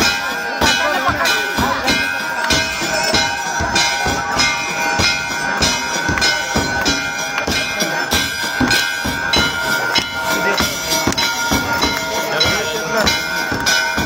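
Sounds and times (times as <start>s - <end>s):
steady metallic ringing: 0.0s - 14.0s
temple bells and percussion: 0.0s - 14.0s.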